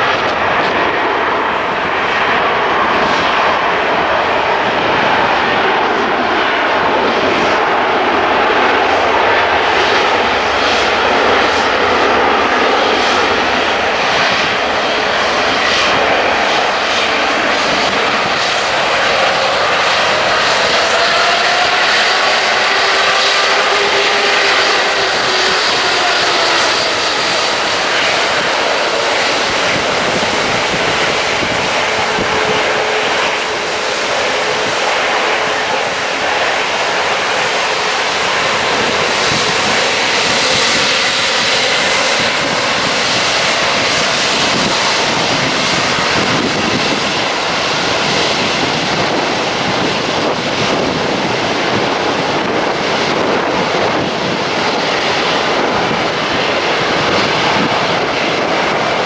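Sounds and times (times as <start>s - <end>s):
airliner engines: 0.0s - 59.0s
whining engine tones: 0.0s - 59.0s.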